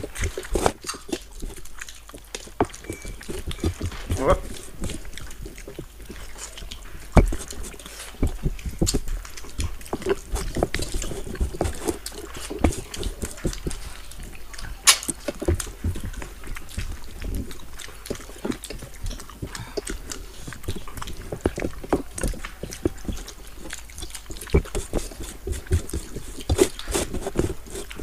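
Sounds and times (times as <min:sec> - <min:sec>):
fingers mixing rice on plates: 0:00.0 - 0:28.0
people chewing with lip smacks: 0:00.0 - 0:28.0.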